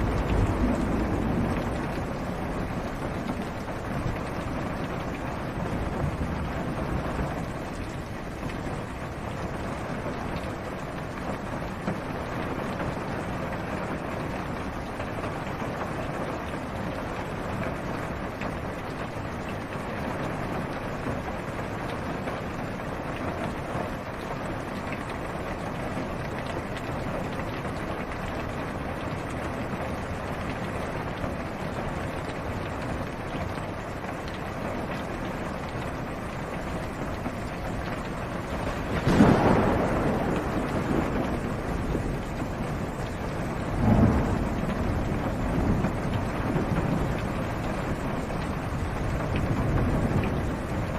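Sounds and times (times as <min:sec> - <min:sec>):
rain on a car roof: 0:00.0 - 0:50.9
raindrop ticks: 0:00.0 - 0:50.9.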